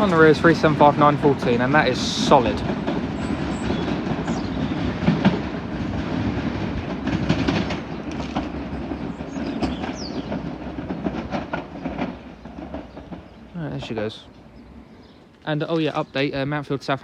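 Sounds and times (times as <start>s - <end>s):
train running noise: 0.0s - 17.0s
wheels clicking over rail joints: 0.0s - 17.0s.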